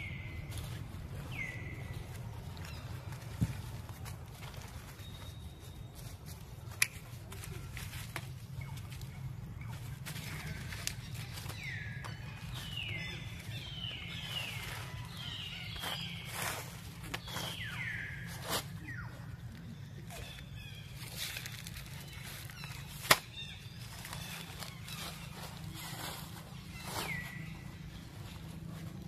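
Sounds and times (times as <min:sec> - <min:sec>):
dry leaves rustling: 0:00.0 - 0:29.0.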